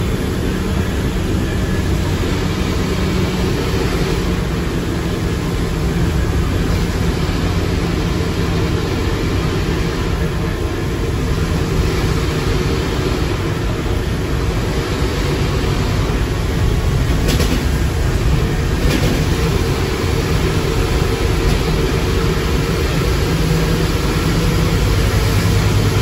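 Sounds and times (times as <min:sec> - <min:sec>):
bus engine and gearbox drone: 0:00.0 - 0:26.0.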